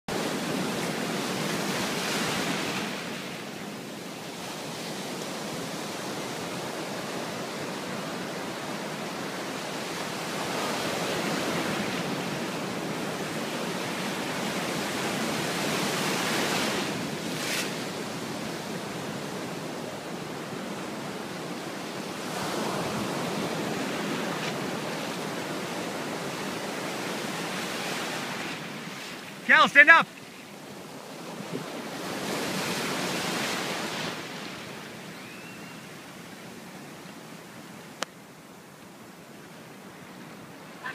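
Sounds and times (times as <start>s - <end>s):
waves breaking on sand: 0.1s - 40.9s.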